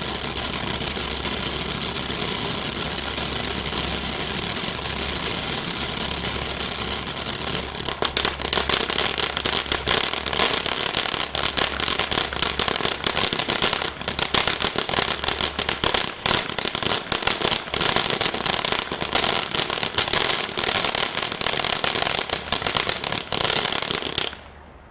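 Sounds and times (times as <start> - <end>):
firework hissing spray: 0.0 - 24.5
firework crackling: 0.0 - 24.6.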